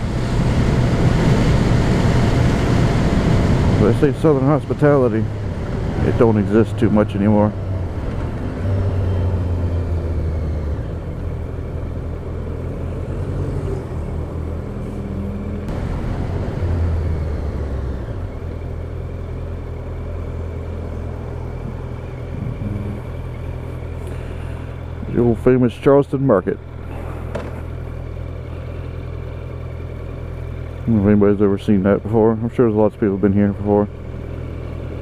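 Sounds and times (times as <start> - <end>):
motorcycle engine running: 0.0 - 25.6, 26.5 - 35.0
wind and road noise: 0.0 - 35.0.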